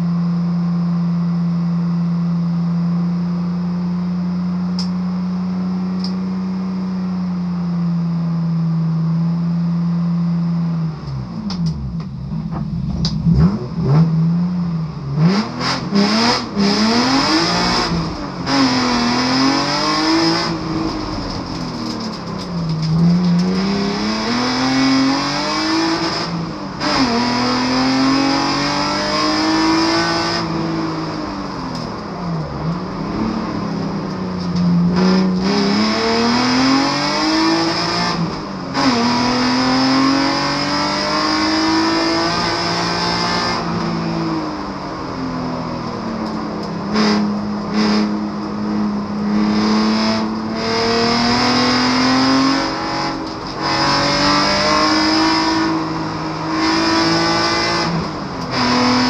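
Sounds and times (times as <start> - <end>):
race car engine revving: 10.5 - 59.0.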